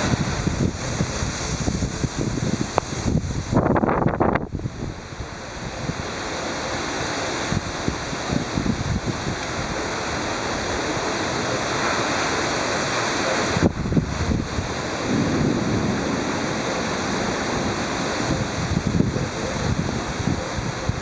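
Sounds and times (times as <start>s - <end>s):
wind buffeting microphone: 0.0s - 6.3s, 6.9s - 21.0s
heavy rain pouring: 0.0s - 21.0s.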